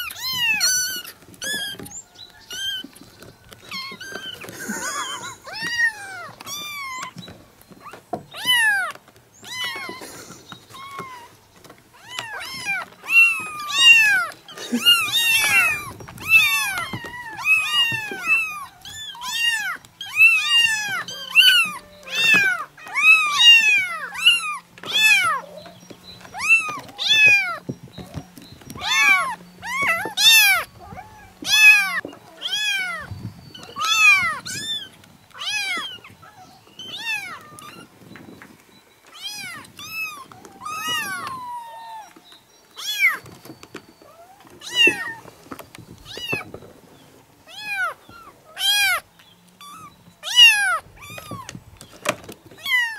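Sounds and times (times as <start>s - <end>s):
kittens meowing: 0.0s - 38.1s, 39.1s - 43.4s, 44.0s - 46.6s, 47.4s - 52.9s.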